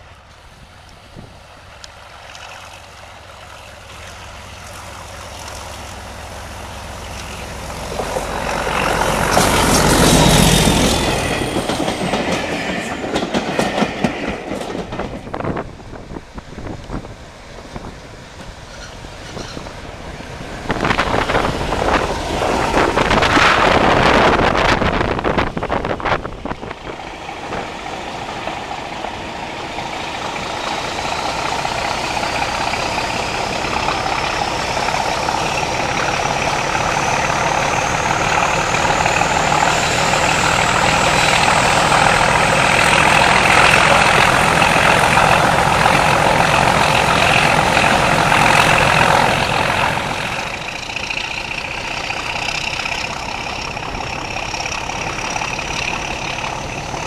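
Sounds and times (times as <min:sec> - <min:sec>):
diesel locomotive engine thrashing: 0:03.7 - 0:57.0.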